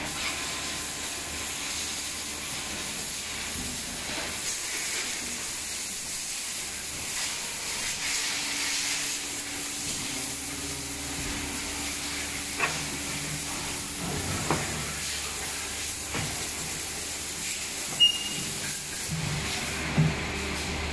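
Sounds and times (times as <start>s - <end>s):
machinery low hum: 0.0s - 20.9s
steady hiss: 0.6s - 19.1s.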